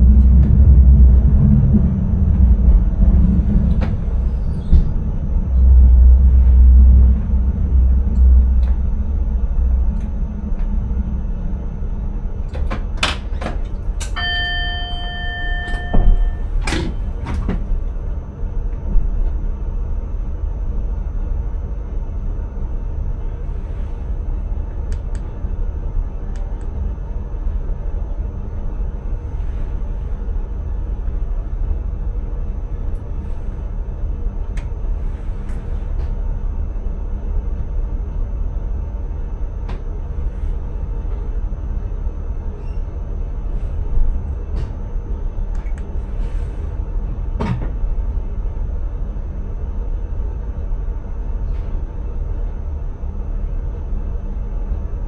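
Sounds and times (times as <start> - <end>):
train running low rumble: 0.0 - 55.0.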